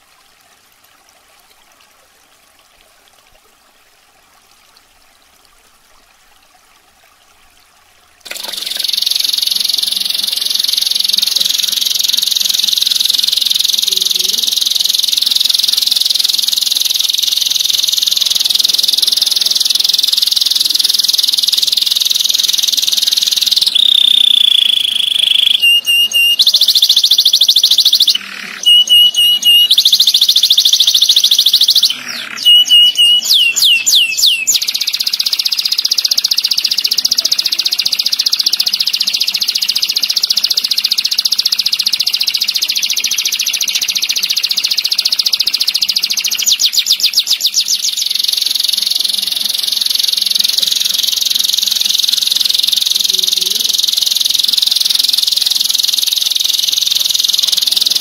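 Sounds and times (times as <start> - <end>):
canary singing rolling trills: 8.3 - 58.0.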